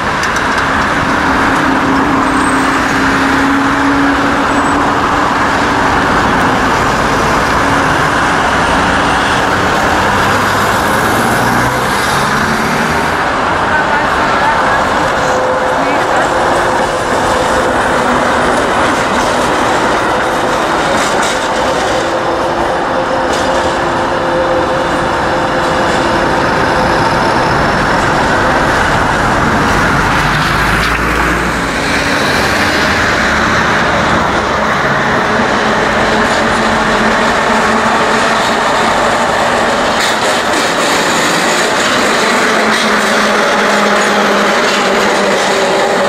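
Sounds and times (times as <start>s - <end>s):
tram wheels rolling on rails: 0.0s - 46.0s
tram whine: 0.0s - 46.0s.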